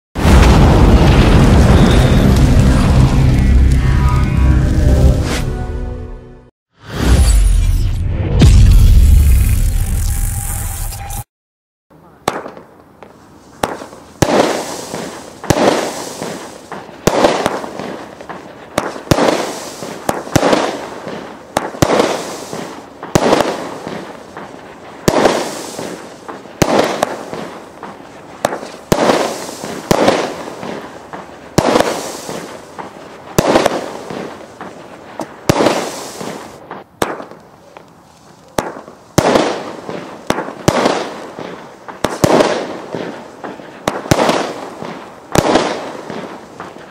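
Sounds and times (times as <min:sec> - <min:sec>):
fireworks shots banging: 0:00.2 - 0:03.7, 0:12.0 - 0:37.9, 0:38.5 - 0:46.9.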